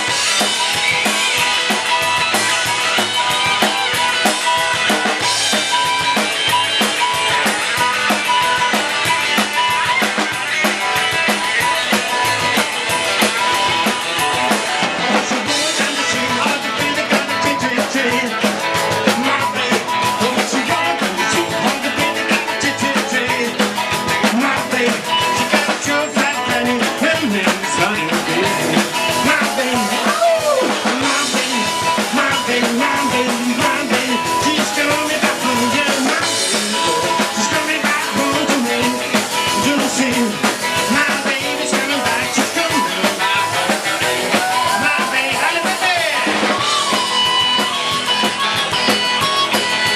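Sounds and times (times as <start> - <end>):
drum kit steady beat: 0.0 - 49.9
rock band playing live: 0.0 - 49.9.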